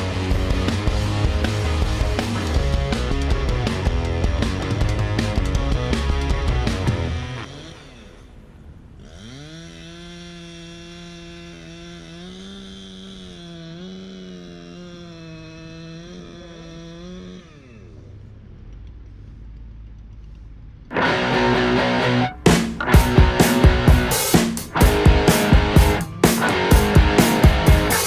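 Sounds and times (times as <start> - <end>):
chainsaw engine revving: 0.0 - 19.4, 20.9 - 28.0.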